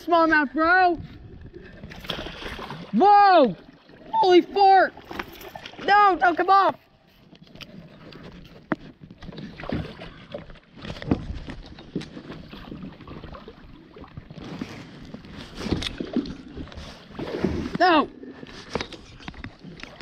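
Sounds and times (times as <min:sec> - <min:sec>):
water sloshing against boat: 0:00.0 - 0:20.0.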